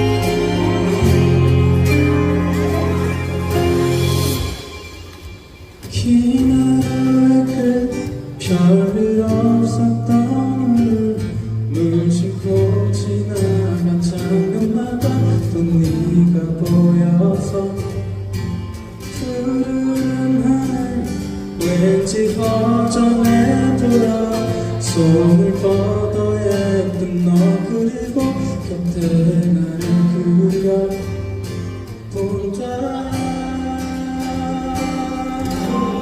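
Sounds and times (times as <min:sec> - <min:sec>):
live pop band with acoustic guitar: 0:00.0 - 0:36.0.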